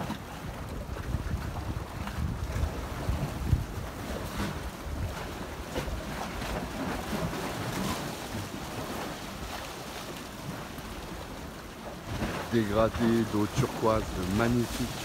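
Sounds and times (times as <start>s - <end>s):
wind on microphone: 0.0s - 9.8s, 10.4s - 15.0s
sea washing on beach: 0.0s - 15.0s.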